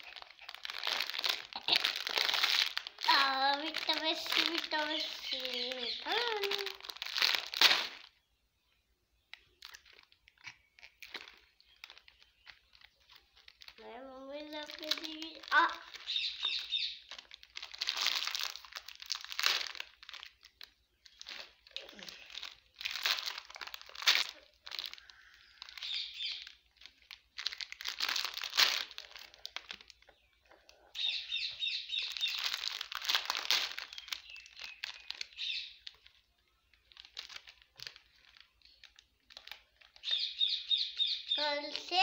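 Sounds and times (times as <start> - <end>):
plastic snack packet crinkling: 0.0 - 8.3, 9.2 - 42.0.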